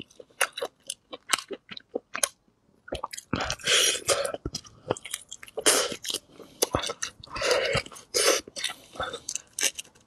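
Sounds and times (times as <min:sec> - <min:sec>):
person biting and chewing: 0:00.0 - 0:10.0.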